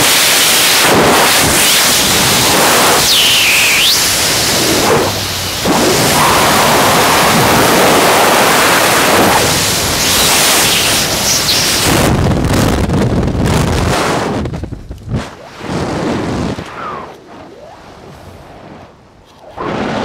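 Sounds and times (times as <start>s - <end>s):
wind rush on microphone: 0.0s - 20.0s.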